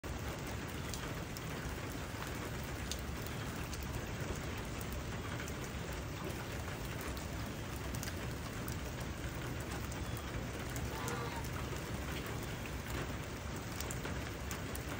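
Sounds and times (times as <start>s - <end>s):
rain falling on grass: 0.0s - 14.9s.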